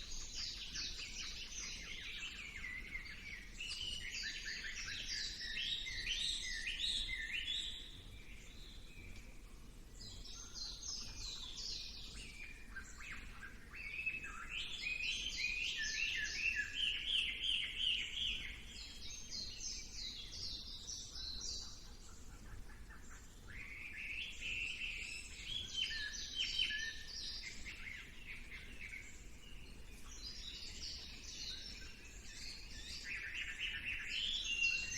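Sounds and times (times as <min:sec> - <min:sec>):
songbirds chattering trills: 0:00.0 - 0:34.9.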